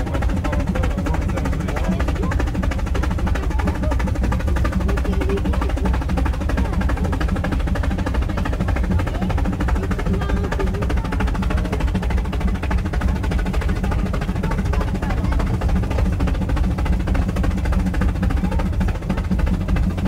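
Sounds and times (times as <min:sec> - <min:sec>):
cog railway train clattering: 0:00.0 - 0:20.0.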